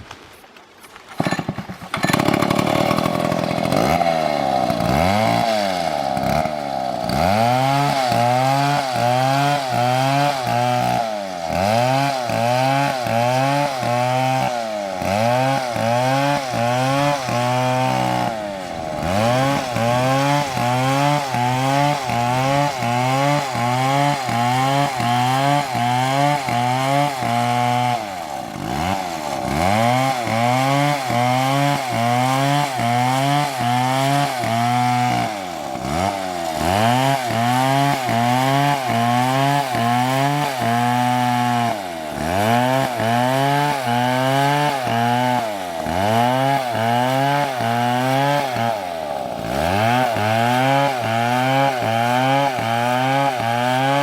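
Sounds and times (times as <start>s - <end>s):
chainsaw cutting into tree trunk: 1.0s - 54.0s.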